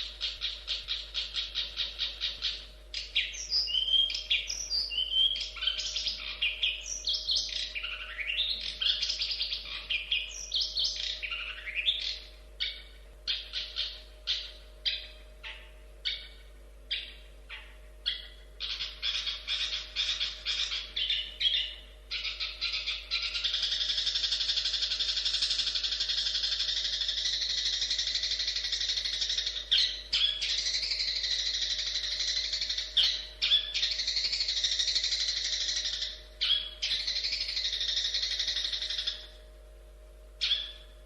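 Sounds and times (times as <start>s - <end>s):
bird singing: 0.0s - 41.0s.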